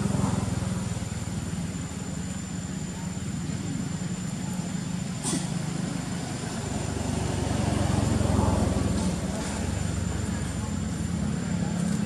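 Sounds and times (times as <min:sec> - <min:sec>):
low motor rumble: 0:00.0 - 0:12.0.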